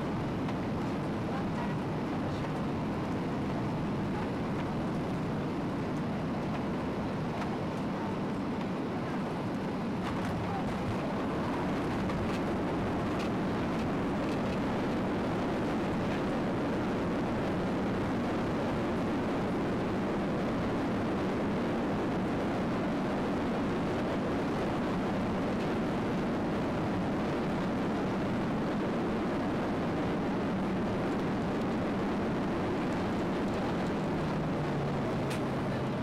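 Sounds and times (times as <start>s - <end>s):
aircraft engines rumbling: 0.0s - 36.0s
airflow and rolling noise: 0.0s - 36.0s
low steady hum: 0.0s - 36.0s.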